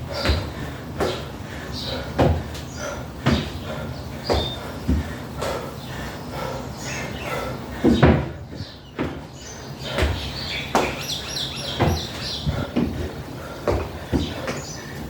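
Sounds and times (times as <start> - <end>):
feet thudding on a box: 0.0 - 5.7, 7.8 - 15.0
birds chirping: 0.0 - 15.0.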